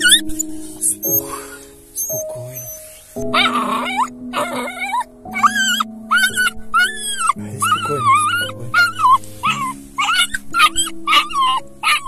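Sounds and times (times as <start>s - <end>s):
puppy screaming: 0.9s - 12.0s.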